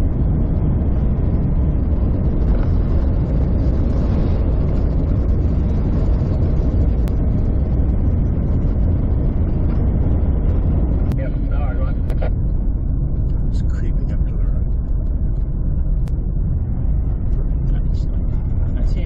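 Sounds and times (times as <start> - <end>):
road train passing: 0.0 - 19.0
vehicle rumbling on gravel road: 0.0 - 19.0.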